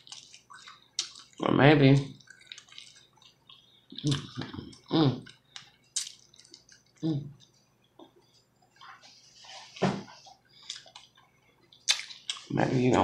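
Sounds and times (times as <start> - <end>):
person chewing meat: 0.0 - 12.5.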